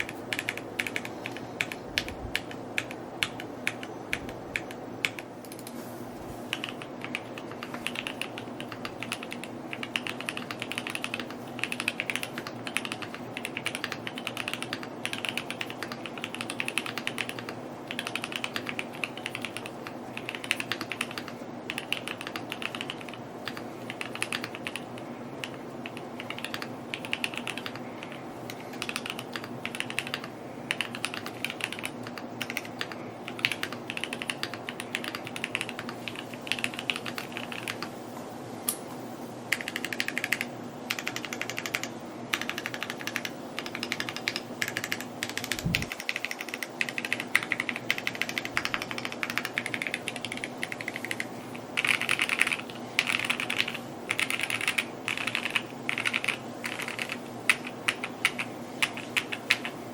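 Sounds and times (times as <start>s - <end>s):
mechanical keyboard typing: 0.0s - 5.7s, 6.5s - 37.9s, 39.5s - 59.8s.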